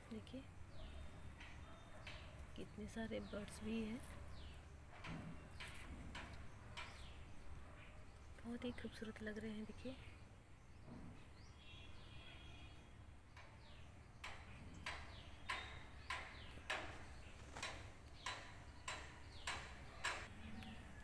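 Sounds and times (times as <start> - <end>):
faint tonal bird calls: 0.1 - 21.0
small bird chirping: 0.2 - 21.0.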